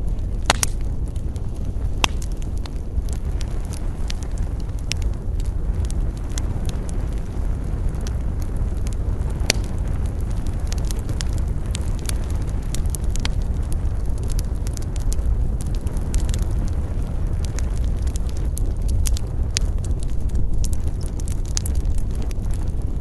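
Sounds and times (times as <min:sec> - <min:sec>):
campfire crackling: 0:00.0 - 0:23.0
low rumble: 0:00.0 - 0:23.0.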